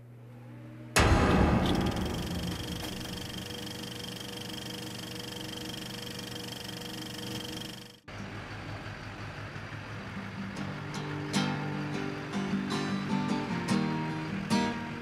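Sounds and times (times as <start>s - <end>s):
film projector whirring and clattering: 1.6s - 15.0s.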